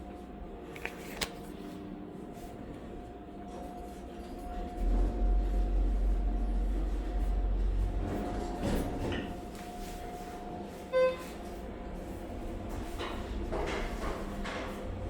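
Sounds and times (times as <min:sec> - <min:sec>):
elevator deep low rumble: 0:02.4 - 0:15.0.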